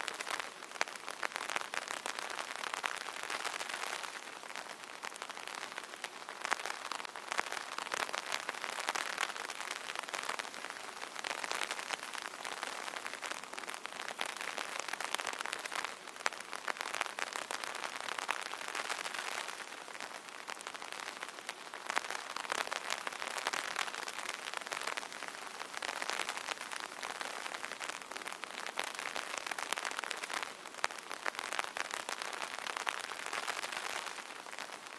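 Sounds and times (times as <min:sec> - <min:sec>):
rain pattering on an umbrella: 0:00.0 - 0:34.9.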